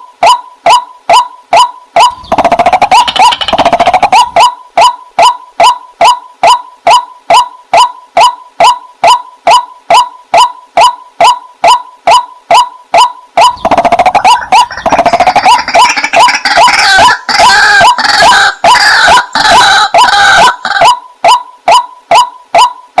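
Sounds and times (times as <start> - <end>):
waterhen calling: 2.0 - 11.4, 12.1 - 22.3.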